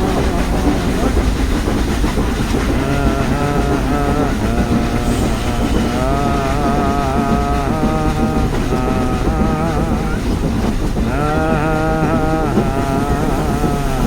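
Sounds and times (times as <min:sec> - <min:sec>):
toy train rumbling on track: 0:00.0 - 0:14.0.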